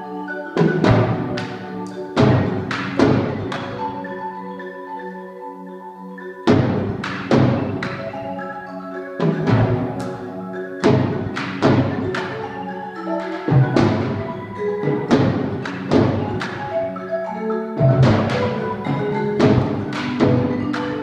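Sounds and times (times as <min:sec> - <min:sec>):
marimba notes: 0:00.0 - 0:21.0.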